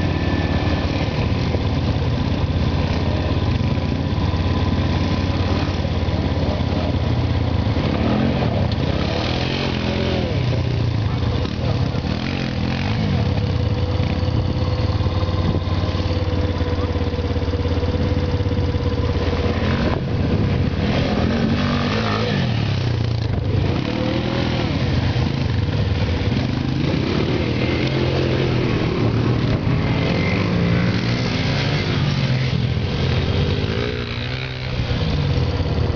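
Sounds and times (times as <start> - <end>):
quad bike engine revving: 0.0 - 35.9.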